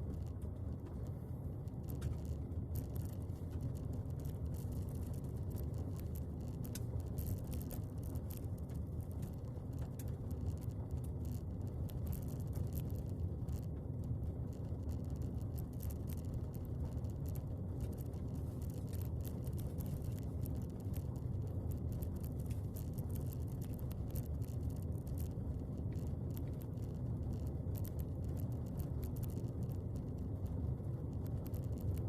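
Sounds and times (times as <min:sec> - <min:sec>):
vehicle rumbling on the move: 0:00.0 - 0:32.0
faint rattling clicks: 0:00.1 - 0:13.9, 0:14.5 - 0:32.0.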